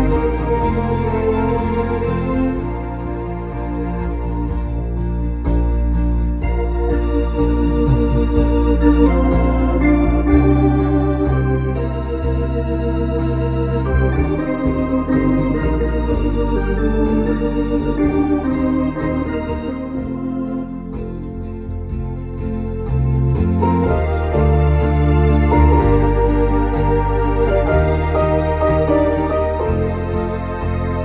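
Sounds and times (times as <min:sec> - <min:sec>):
home organ playing melody: 0:00.0 - 0:31.0
light percussion beat: 0:00.0 - 0:31.0.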